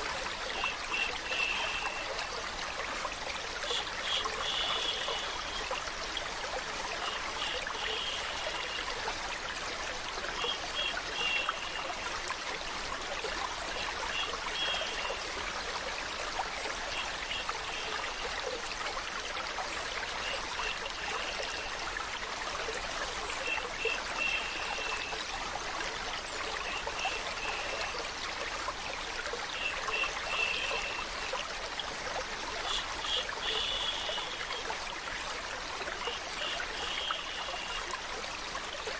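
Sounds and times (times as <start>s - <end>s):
stream of water trickling: 0.0s - 38.9s.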